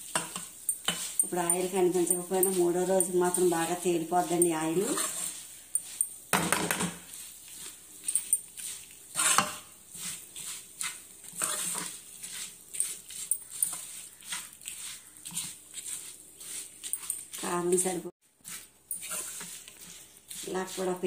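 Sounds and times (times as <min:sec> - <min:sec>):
metal spoon scraping a pan: 0:00.0 - 0:21.0.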